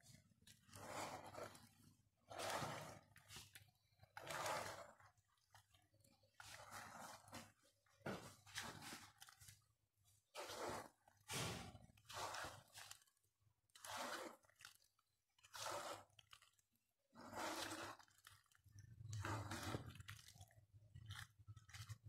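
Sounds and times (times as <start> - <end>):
spatula stirring in glass bowl: 0.0 - 22.0.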